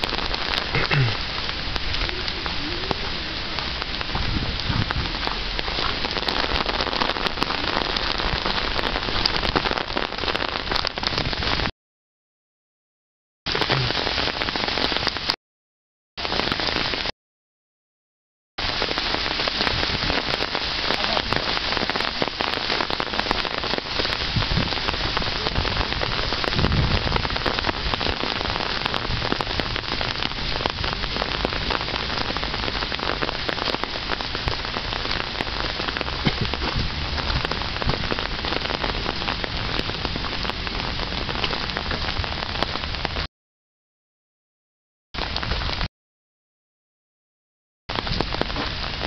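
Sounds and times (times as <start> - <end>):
rain pattering on ground: 0.0 - 11.7, 13.5 - 15.4, 16.2 - 17.1, 18.6 - 43.3, 45.2 - 45.9, 47.9 - 49.0.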